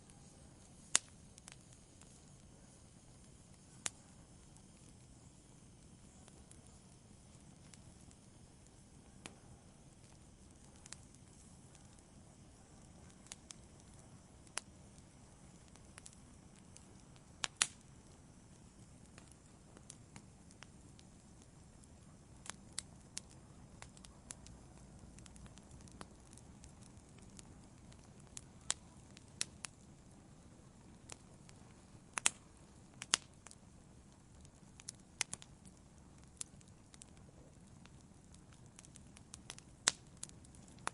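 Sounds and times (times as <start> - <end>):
fire crackles and pops: 0.0 - 40.9
wood fire hissing: 0.0 - 40.9.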